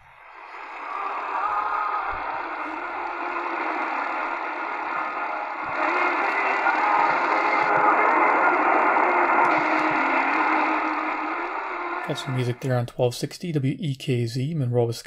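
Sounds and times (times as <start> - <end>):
radio static hiss: 0.0 - 13.6
faint music on radio: 0.0 - 15.0.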